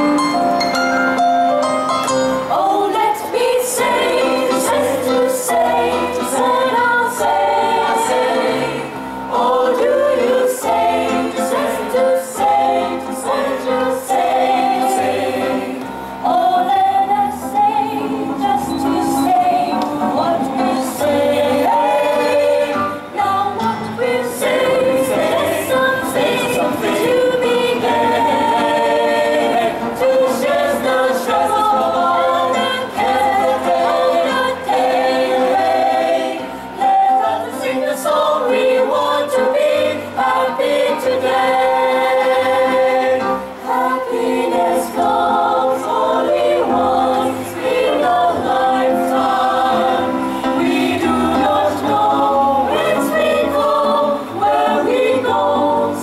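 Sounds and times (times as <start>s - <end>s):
mixed choir singing: 2.1s - 56.0s.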